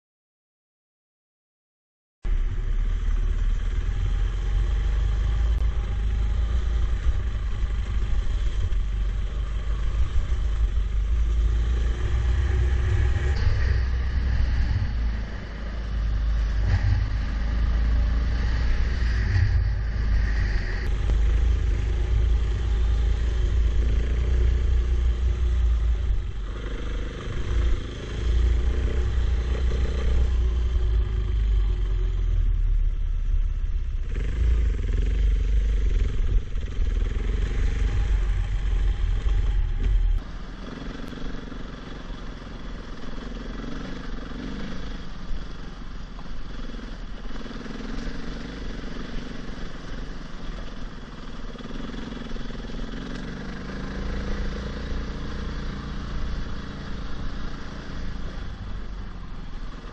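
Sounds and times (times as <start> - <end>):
heavy low rumble: 2.2 - 59.9
motorcycle engine running: 2.3 - 59.9.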